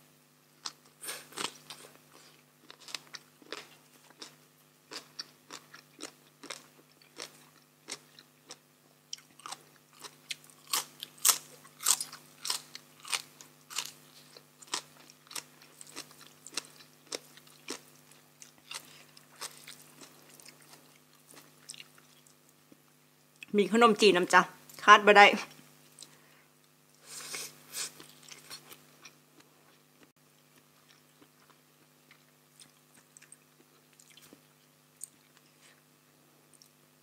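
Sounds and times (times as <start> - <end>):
crunchy vegetables being chewed: 0.6 - 23.5, 26.9 - 36.8.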